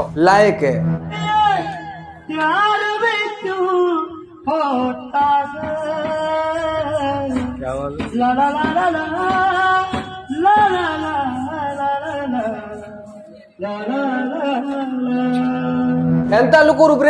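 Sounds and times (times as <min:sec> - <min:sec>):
man singing into microphone: 0:01.1 - 0:17.0.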